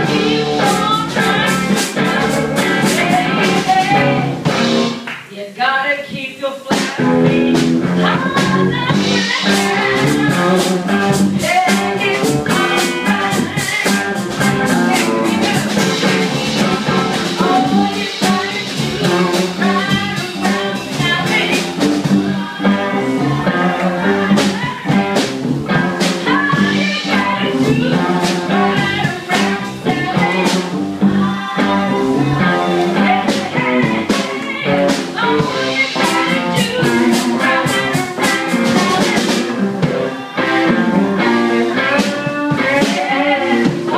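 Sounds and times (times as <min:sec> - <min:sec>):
woman singing into a microphone: 0:00.0 - 0:04.6, 0:05.3 - 0:43.9
electric guitar: 0:00.0 - 0:05.3, 0:06.7 - 0:43.9
drum kit: 0:00.0 - 0:05.5, 0:06.6 - 0:43.9.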